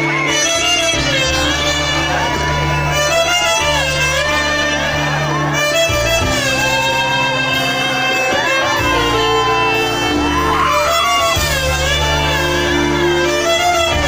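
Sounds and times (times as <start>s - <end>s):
held bass notes: 0.0s - 14.0s
sliding bending melody: 0.0s - 14.0s.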